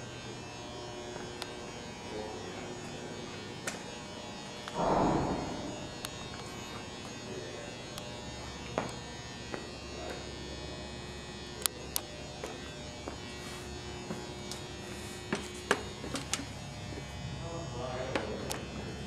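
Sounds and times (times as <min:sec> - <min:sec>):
electrical hum: 0:00.4 - 0:17.9.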